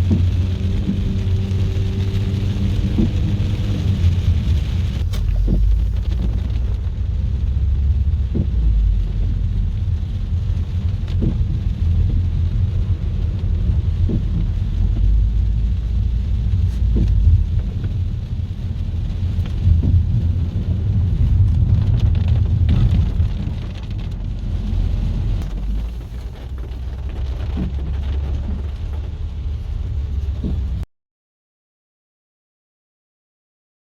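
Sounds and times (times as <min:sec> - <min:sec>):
heavy rain: 0:00.0 - 0:30.8
thunder rumbling: 0:00.0 - 0:30.8.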